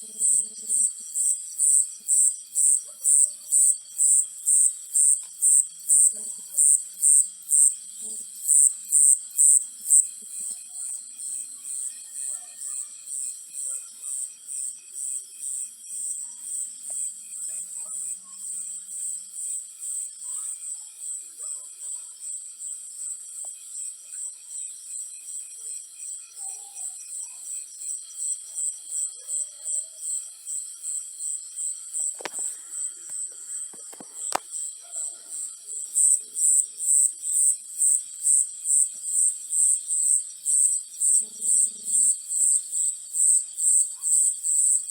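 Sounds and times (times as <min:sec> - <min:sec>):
cricket chirping: 0:00.0 - 0:44.9.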